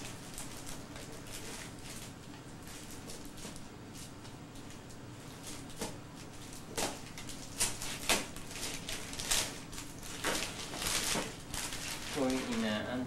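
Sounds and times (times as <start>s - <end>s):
wrapping paper rustling: 0.0s - 12.9s.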